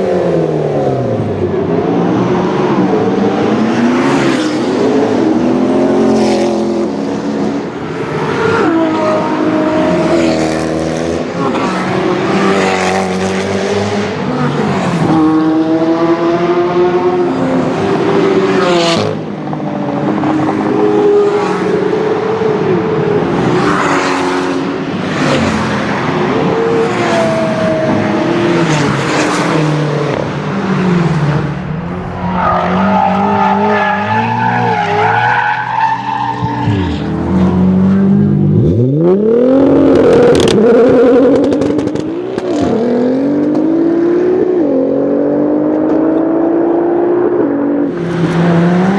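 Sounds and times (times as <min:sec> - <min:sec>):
sports car engines revving: 0:00.0 - 0:48.9.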